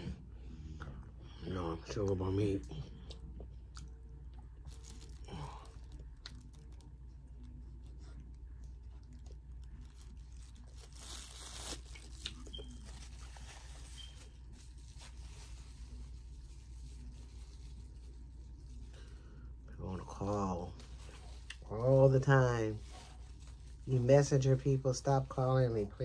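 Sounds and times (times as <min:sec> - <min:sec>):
aluminum foil rustling: 0:04.6 - 0:26.0.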